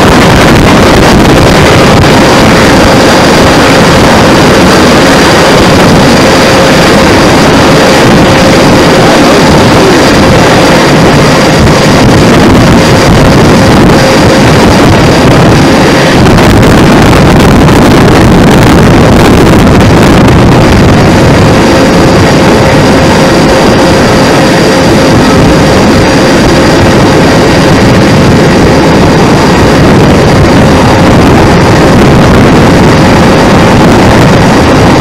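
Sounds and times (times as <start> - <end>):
faint whine: 0.0 - 35.0
jet engine noise: 0.0 - 35.0
wind buffeting microphone: 0.0 - 35.0.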